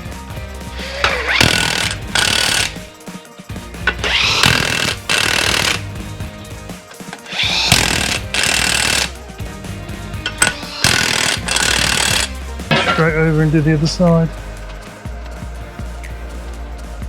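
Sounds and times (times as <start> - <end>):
impact wrench bursts: 0.6 - 14.9.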